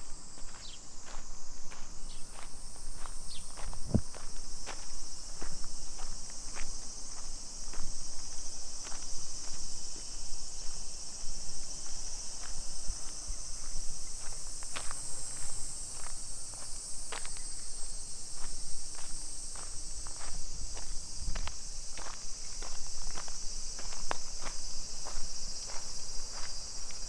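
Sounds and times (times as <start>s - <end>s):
insects droning: 0.0s - 27.0s
footsteps on pavement: 0.3s - 27.0s.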